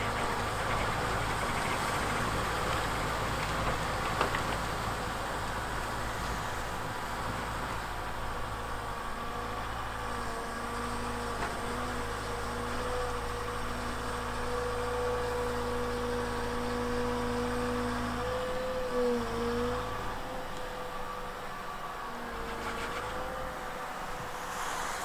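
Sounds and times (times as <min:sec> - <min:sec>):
excavator diesel engine: 0:00.0 - 0:25.0.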